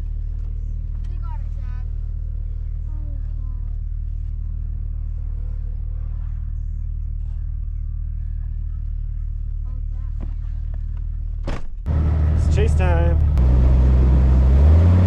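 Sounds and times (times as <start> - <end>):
vehicle engine droning steadily: 0.0 - 15.0.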